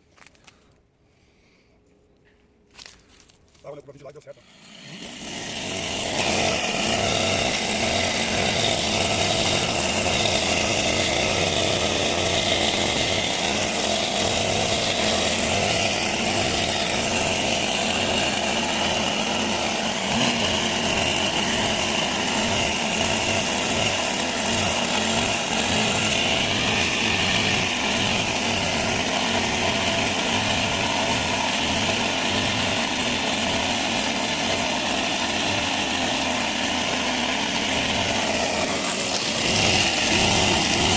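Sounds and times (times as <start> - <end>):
chainsaw planing wood: 2.8 - 40.9.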